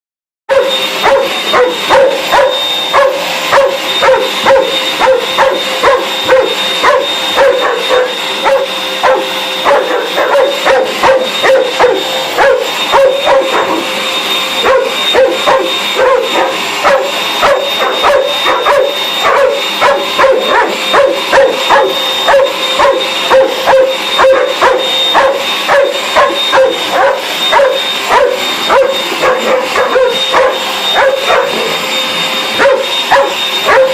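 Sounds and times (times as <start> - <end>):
dog barking and yipping: 0.5 - 33.9
vacuum cleaner whine: 0.5 - 33.9.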